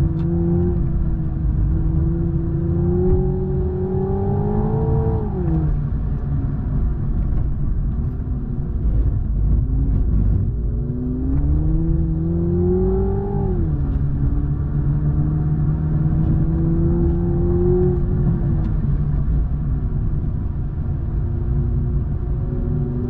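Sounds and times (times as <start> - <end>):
low rumble: 0.0 - 23.0
turbocharged car engine under load: 0.0 - 23.0.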